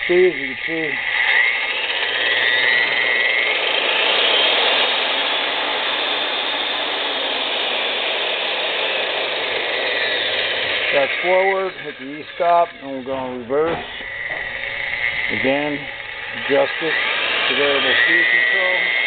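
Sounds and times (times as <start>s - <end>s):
drill press motor whining: 0.0s - 19.0s.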